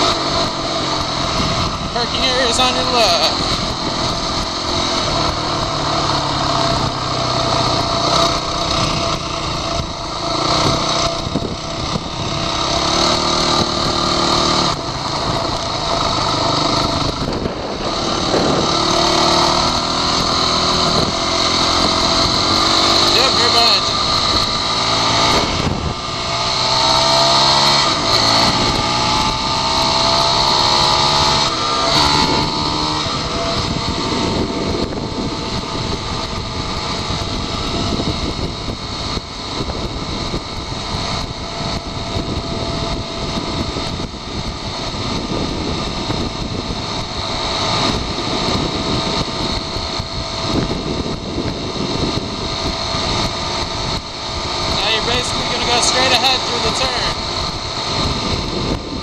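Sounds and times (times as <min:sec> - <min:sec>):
dirt bike engine accelerating: 0:00.0 - 0:59.0
wind rush on microphone: 0:00.0 - 0:59.0.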